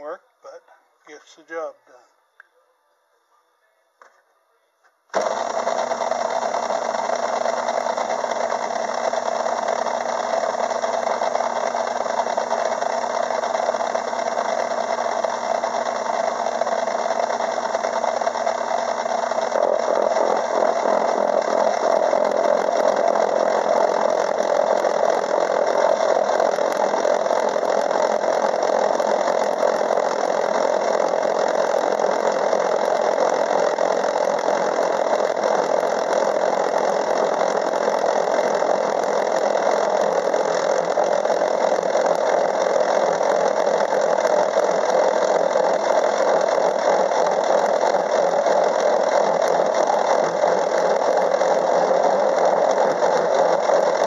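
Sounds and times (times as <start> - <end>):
gear cutter cutting steel: 5.2 - 54.0
metal lathe running: 5.2 - 54.0.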